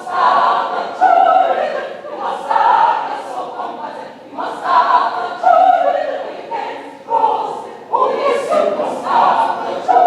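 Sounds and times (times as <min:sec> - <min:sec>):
choir singing: 0:00.0 - 0:10.0.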